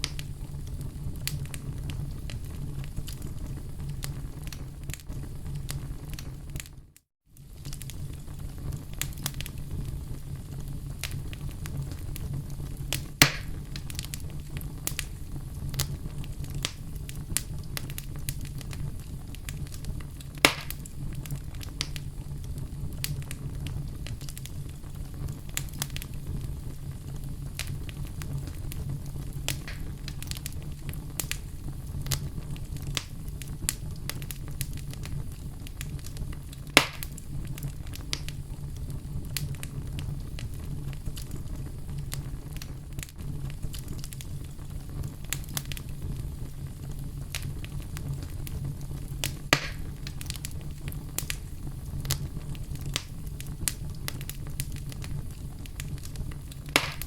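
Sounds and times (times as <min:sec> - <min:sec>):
campfire crackling: 0:00.0 - 0:57.0
loud fire pops: 0:00.0 - 0:57.0.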